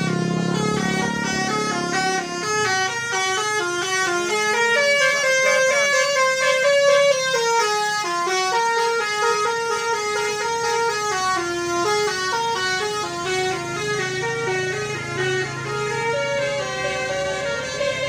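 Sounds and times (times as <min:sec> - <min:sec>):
bus musical horn playing a tune: 0:00.0 - 0:18.0.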